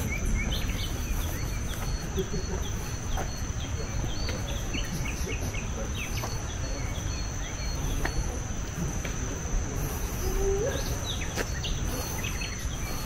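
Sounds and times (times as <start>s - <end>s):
bird chirps: 0.0s - 13.0s
insects droning: 0.0s - 13.0s.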